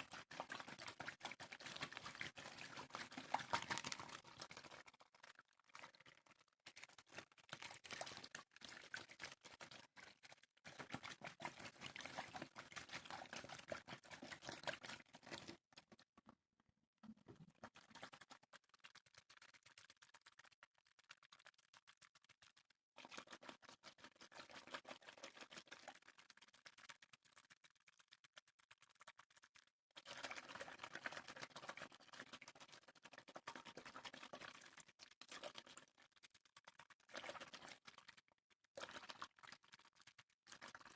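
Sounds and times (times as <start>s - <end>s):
crackly water sounds: 0.0s - 40.9s.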